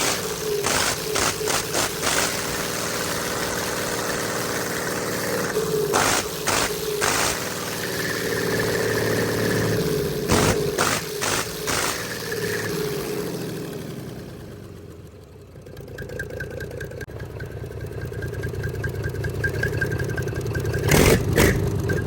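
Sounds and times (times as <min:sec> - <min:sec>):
loud engine bursts: 0:00.0 - 0:15.2, 0:17.2 - 0:22.0
bulldozer diesel engine idling: 0:00.0 - 0:22.0.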